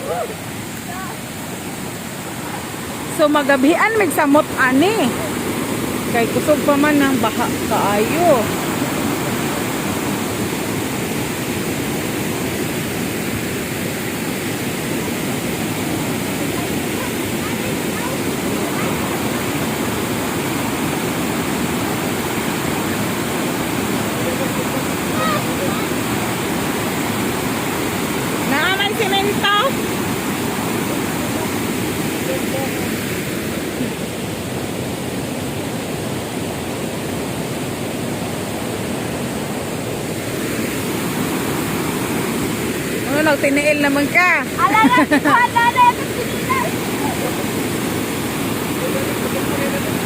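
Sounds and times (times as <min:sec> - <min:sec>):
floodwater rushing in a river: 0:00.0 - 0:50.0.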